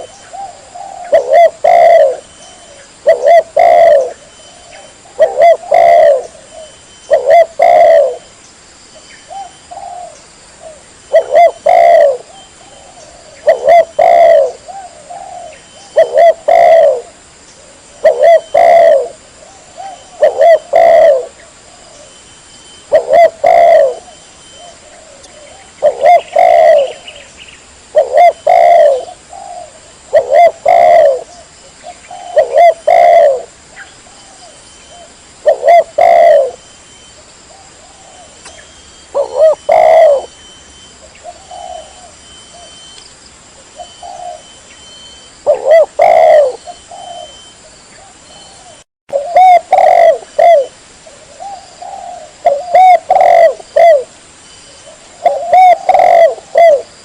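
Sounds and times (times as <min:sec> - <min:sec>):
dove cooing: 0:00.0 - 0:08.3, 0:09.3 - 0:22.2, 0:22.8 - 0:27.3, 0:27.9 - 0:43.0, 0:43.6 - 0:54.1, 0:54.7 - 0:57.0.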